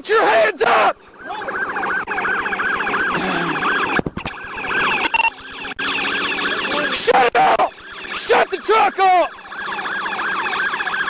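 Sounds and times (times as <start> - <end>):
police siren yelping: 0.2 - 11.0.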